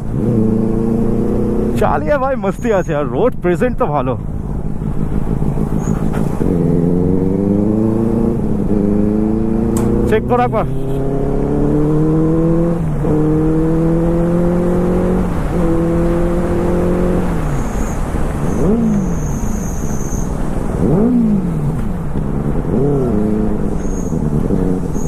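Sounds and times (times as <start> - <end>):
motorbike engine accelerating: 0.0 - 25.0.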